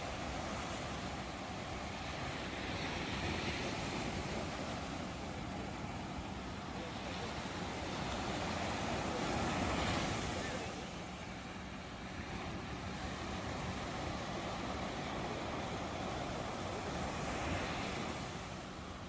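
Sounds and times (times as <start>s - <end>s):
ocean waves washing on shore: 0.0s - 19.0s.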